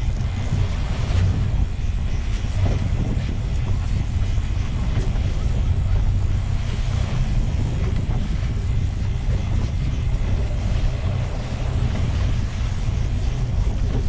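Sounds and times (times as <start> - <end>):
low rumble: 0.0 - 14.0
water rushing past hull: 0.0 - 14.0
wind buffeting microphone: 0.0 - 14.0.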